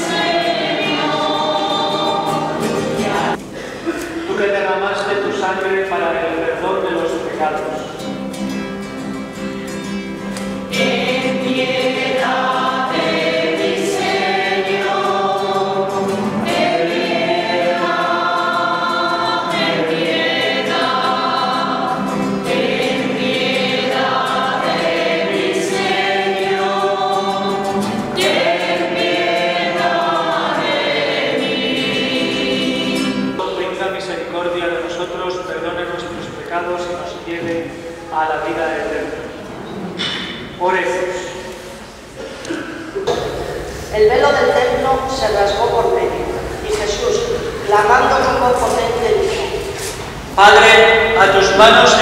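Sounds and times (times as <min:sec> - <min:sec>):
choir singing a hymn: 0:00.0 - 0:03.6, 0:09.2 - 0:42.2, 0:43.0 - 0:52.0.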